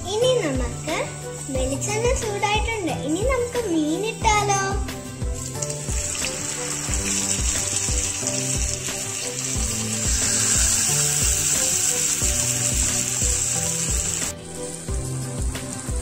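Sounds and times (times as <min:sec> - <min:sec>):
background music with steady beat: 0:00.0 - 0:16.0
fish sizzling in a pan: 0:00.2 - 0:04.2, 0:04.9 - 0:16.0.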